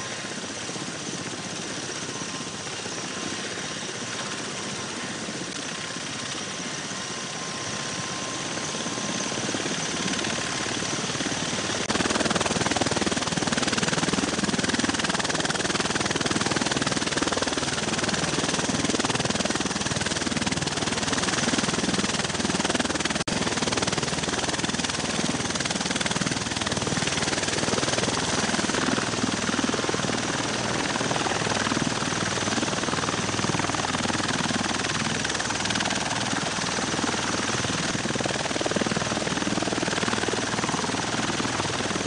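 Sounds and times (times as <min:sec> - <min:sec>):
helicopter running: 0:00.0 - 0:42.0.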